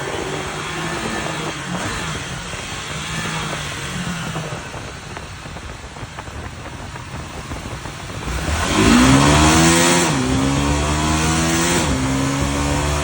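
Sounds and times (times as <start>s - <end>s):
motorcycle engine: 0.0s - 13.0s
wind rush on microphone: 0.0s - 13.0s.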